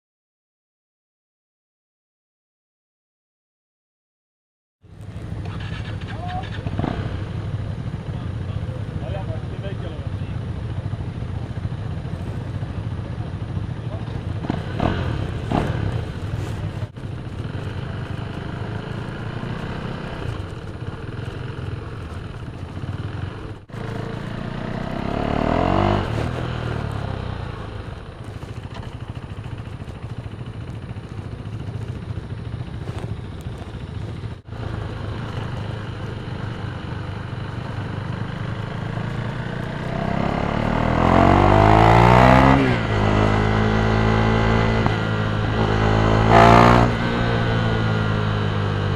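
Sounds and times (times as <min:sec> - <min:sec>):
motorcycle engine revving: 0:04.8 - 0:48.9.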